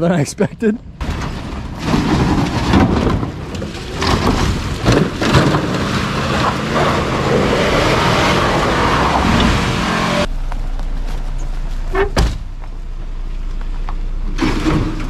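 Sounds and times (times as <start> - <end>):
tyres on dirt: 0.0 - 15.0
truck engine under load: 0.8 - 15.0.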